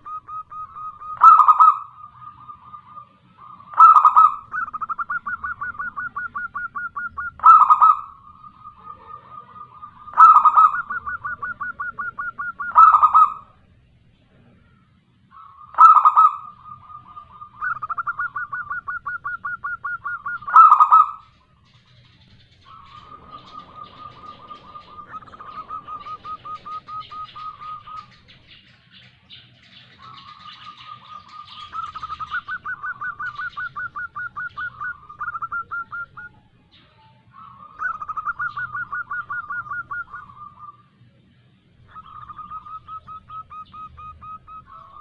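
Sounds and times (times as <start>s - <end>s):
dove cooing: 0.0s - 41.2s, 41.8s - 45.0s
stuttering bird trills: 0.0s - 45.0s.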